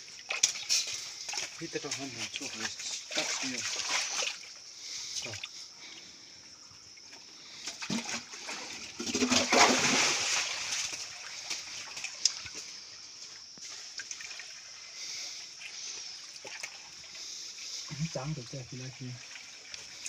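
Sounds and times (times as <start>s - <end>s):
stream water trickling: 0.0s - 20.0s
water splashing and sloshing: 0.0s - 20.0s.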